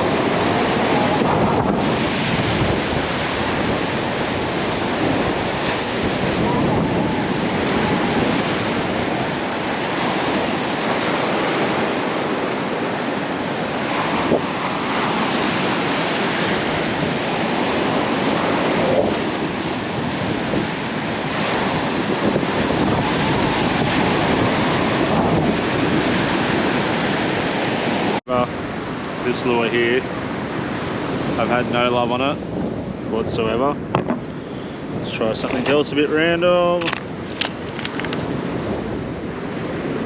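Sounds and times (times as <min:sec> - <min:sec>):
ocean surf on beach: 0:00.0 - 0:40.0
wind buffeting microphone: 0:00.0 - 0:40.0.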